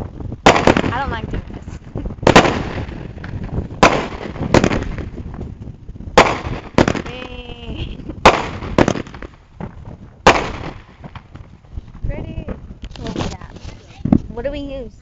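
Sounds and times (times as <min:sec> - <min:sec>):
fireworks exploding: 0:00.0 - 0:14.2.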